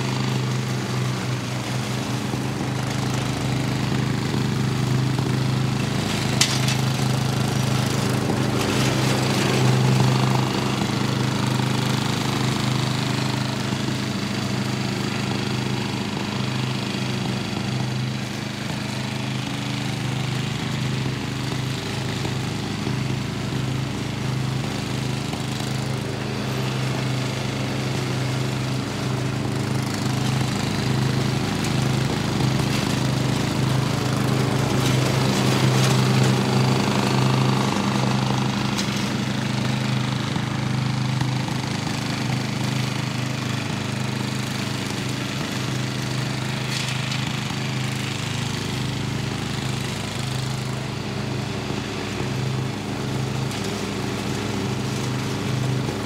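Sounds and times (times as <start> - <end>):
riding lawn mower engine running: 0.0 - 56.0.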